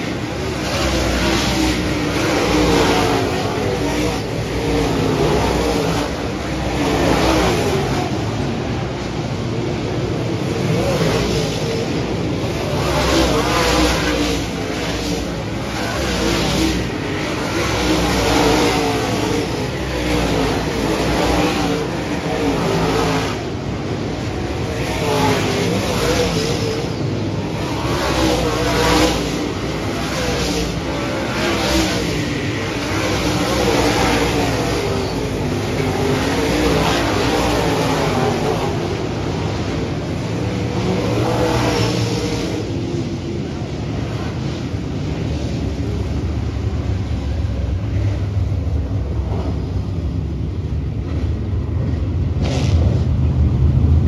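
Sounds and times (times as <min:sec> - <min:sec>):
race car engines passing: 0:00.0 - 0:54.0.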